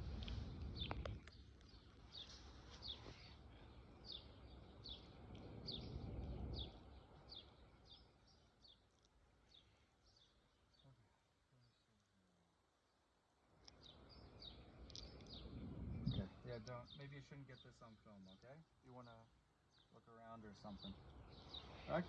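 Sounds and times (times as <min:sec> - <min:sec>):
bird chirping: 0:00.0 - 0:12.0, 0:12.8 - 0:22.0.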